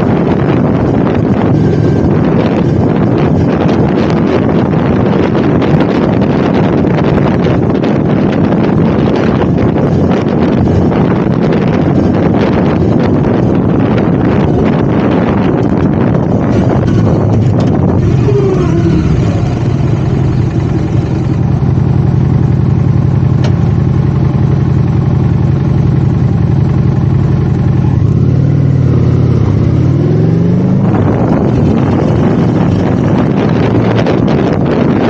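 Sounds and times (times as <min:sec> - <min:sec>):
motorcycle engine: 0:00.0 - 0:35.0
wind noise on microphone: 0:00.0 - 0:35.0.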